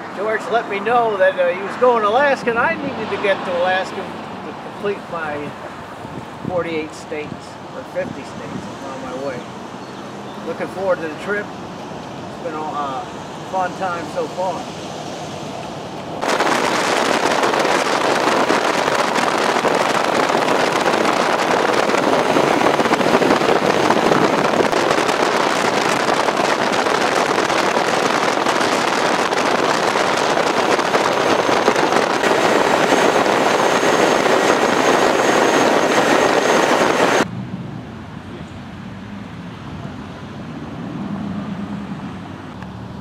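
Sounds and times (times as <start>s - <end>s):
wind and road noise: 0.0s - 43.0s.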